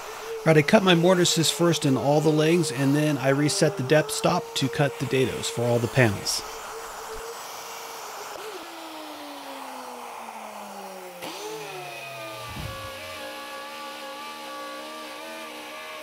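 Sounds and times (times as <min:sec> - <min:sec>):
router motor whine: 0:00.0 - 0:16.0.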